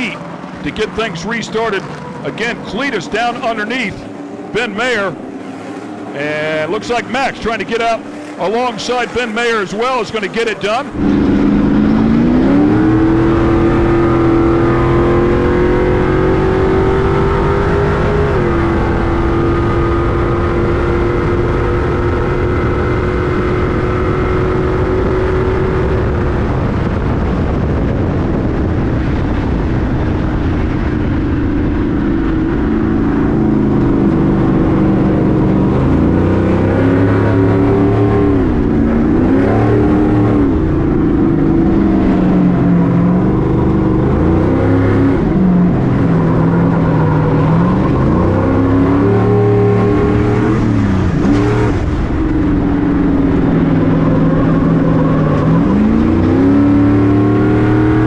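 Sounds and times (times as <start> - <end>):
race truck engine revving: 0.0 - 58.0.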